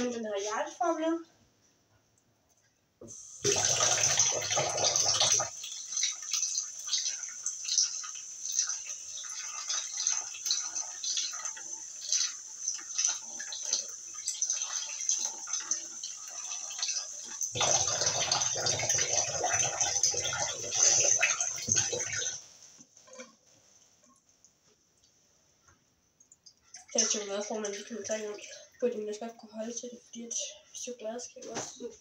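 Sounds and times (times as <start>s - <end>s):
water running in sink: 3.0s - 23.4s, 26.2s - 32.0s.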